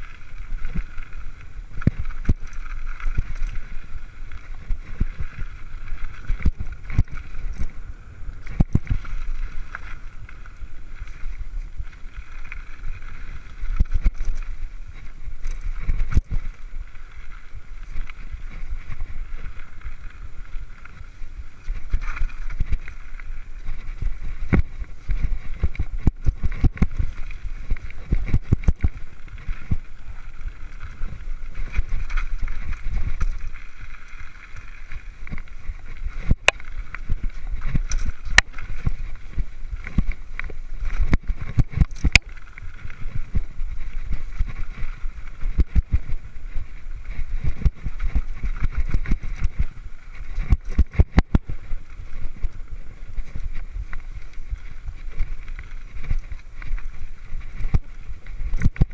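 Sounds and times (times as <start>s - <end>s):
bike knocking and rattling: 0.0s - 58.9s
wind rumble on microphone: 0.0s - 58.9s.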